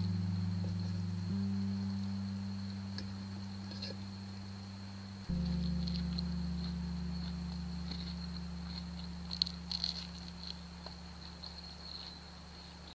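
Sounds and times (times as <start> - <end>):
faint high-pitched tone: 0.0 - 12.9
low sustained music chord: 0.0 - 12.9.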